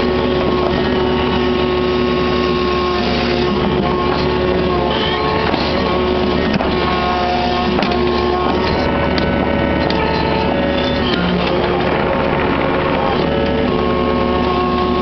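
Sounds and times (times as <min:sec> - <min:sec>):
excavator diesel engine under load: 0:00.0 - 0:15.0
steady whining tones: 0:00.0 - 0:15.0.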